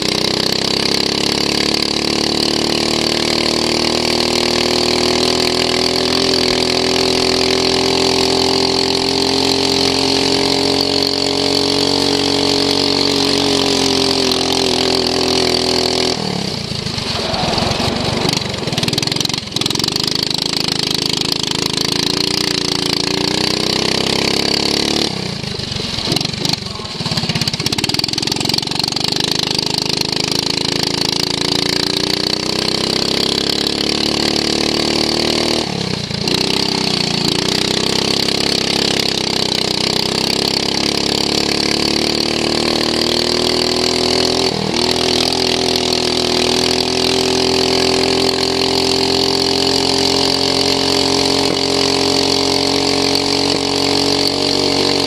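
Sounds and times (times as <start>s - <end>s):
racing lawn mower engine accelerating: 0.0s - 55.0s.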